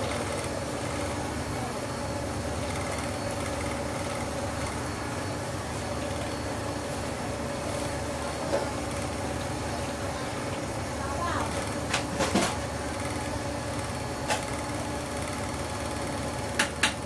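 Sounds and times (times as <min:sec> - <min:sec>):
kitchen machinery humming: 0:00.0 - 0:17.0.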